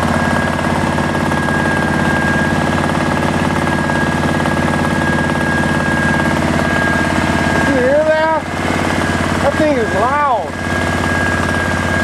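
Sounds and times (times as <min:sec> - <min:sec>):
low hum: 0:00.0 - 0:12.0
siren wailing: 0:00.0 - 0:12.0.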